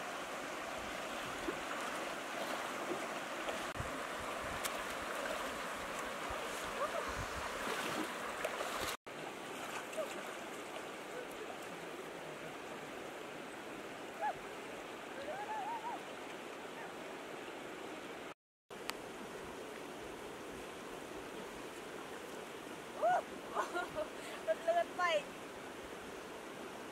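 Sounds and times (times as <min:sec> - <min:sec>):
floodwater rushing in stream: 0:00.0 - 0:26.9.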